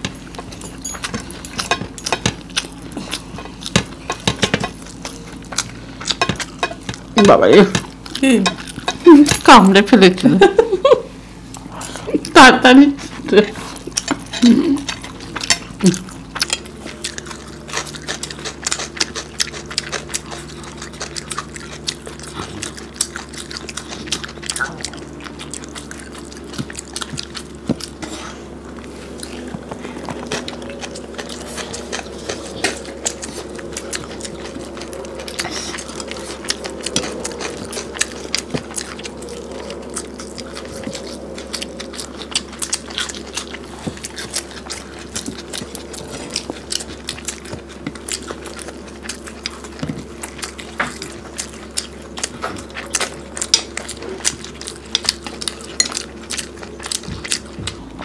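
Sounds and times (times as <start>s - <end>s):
people chewing with wet clicks: 0.0s - 58.0s
steady low hum: 0.0s - 58.0s.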